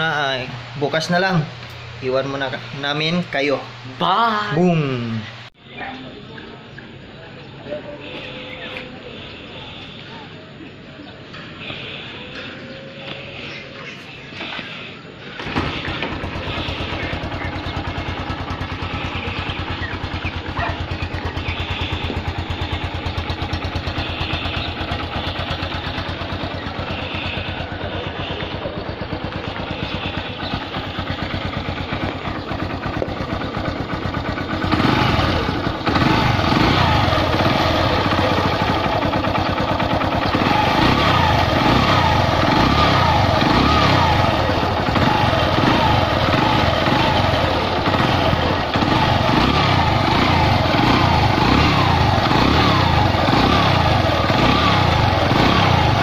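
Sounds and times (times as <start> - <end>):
motorcycle engine revving: 6.6 - 56.0.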